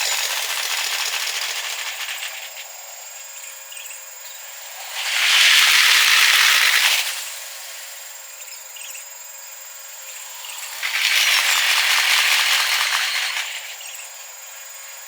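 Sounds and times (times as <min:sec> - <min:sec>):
train wheels rattling on rails: 0:00.0 - 0:03.2, 0:04.3 - 0:08.2, 0:10.0 - 0:15.0.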